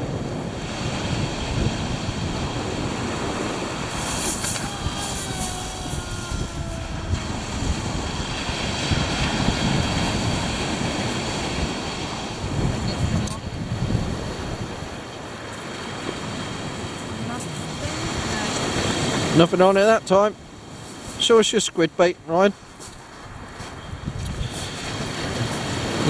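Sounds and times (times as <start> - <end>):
wind rumbling on microphone: 0.0 - 19.5, 22.5 - 26.0
surf washing on shingle: 0.0 - 26.0.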